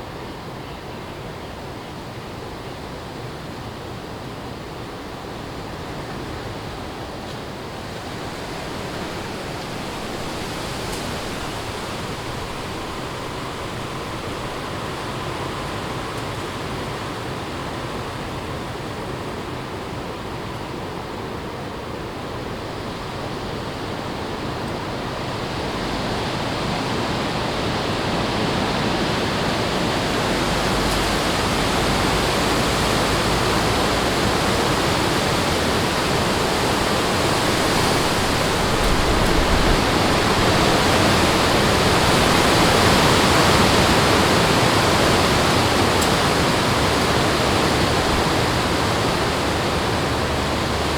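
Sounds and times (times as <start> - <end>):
strong wind through trees: 0.0 - 50.9.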